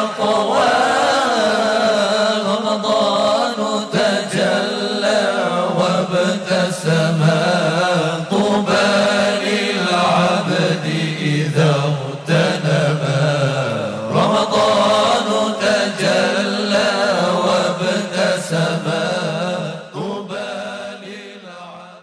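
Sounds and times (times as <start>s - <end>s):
low held vocal drone: 0.0s - 22.0s.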